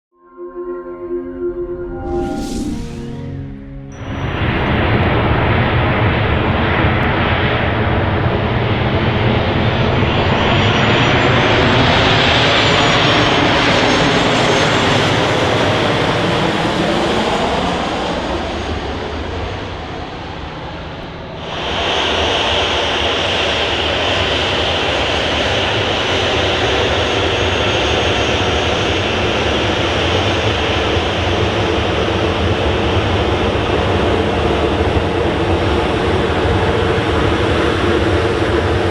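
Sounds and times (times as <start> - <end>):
jet engine roar: 1.7 - 38.9.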